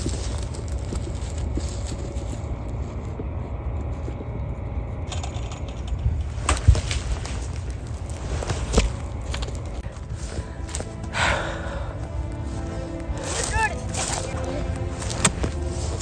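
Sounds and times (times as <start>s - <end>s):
wind rumble on microphone: 0.0s - 13.2s.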